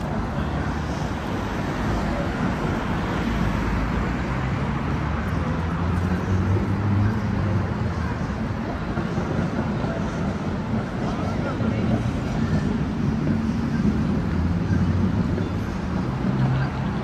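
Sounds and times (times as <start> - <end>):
motor vehicles rumbling: 0.0 - 17.0.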